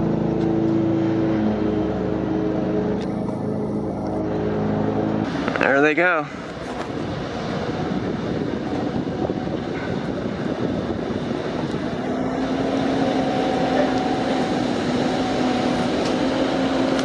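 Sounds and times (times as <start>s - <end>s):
rushing wind: 0.0s - 17.0s
vehicle engine: 0.0s - 17.0s.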